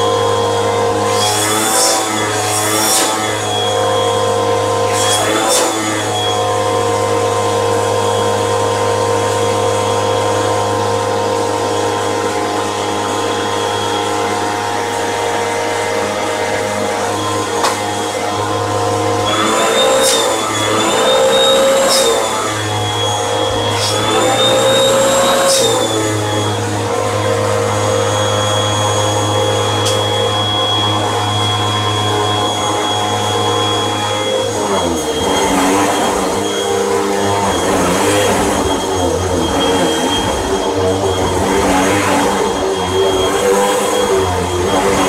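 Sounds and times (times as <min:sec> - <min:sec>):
vacuum cleaner hum and whine: 0:00.0 - 0:45.0.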